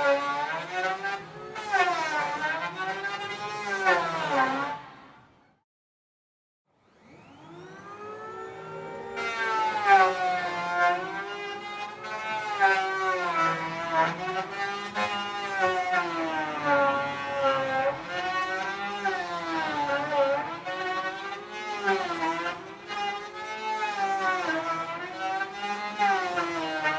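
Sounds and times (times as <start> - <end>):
electric hand planer whining: 0.0 - 5.2, 6.8 - 26.9.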